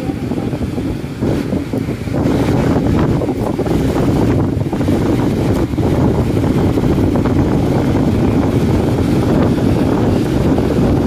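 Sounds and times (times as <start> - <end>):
waves breaking on beach: 0.0 - 11.0
wind buffeting microphone: 0.0 - 11.0.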